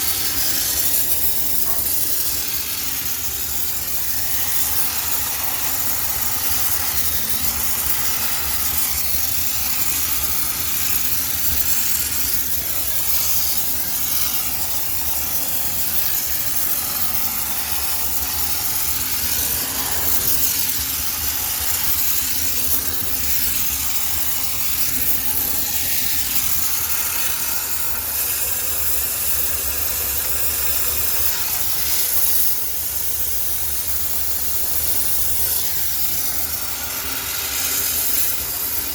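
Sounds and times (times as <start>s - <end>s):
steam cleaner hissing: 0.0s - 38.9s.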